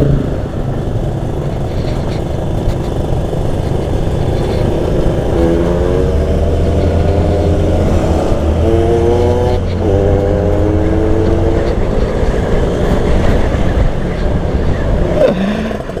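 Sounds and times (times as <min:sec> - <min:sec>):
motorcycle engine revving: 0:00.0 - 0:16.0
wind rumble on microphone: 0:00.0 - 0:16.0.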